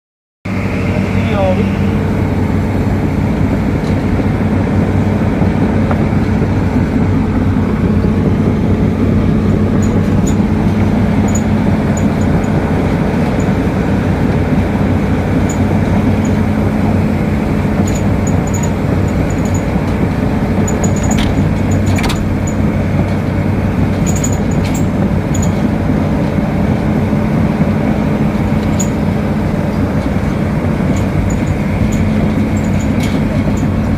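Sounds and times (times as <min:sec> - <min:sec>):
excavator diesel engine running: 0:00.5 - 0:33.9.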